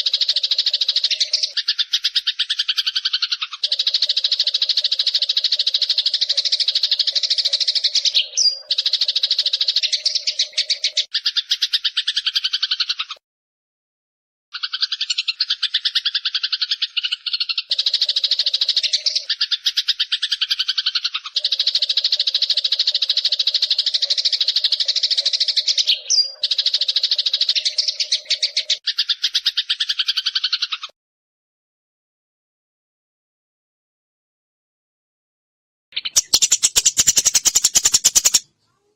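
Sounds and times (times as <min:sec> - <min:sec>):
sparrow chattering: 0:00.0 - 0:13.2, 0:14.5 - 0:30.9, 0:36.0 - 0:38.8.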